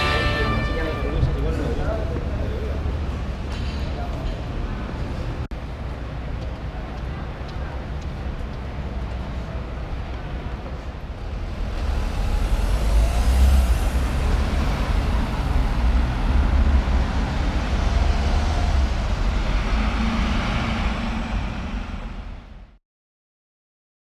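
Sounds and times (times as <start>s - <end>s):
cars driving past: 0.0s - 22.8s.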